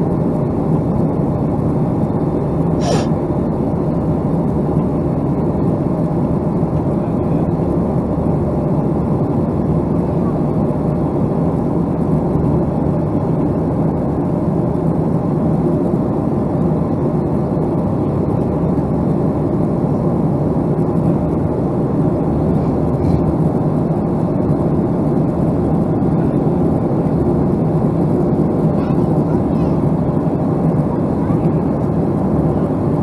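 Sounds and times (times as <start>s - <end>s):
faint hum: 0.0s - 33.0s
jet engine rumble: 0.0s - 33.0s.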